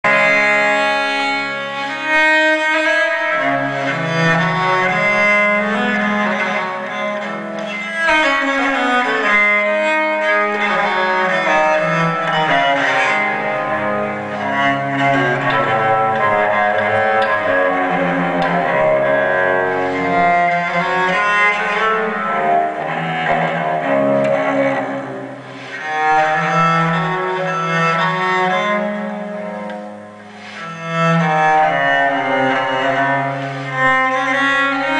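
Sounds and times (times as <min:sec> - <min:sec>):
cello and strings playing: 0:00.0 - 0:34.9.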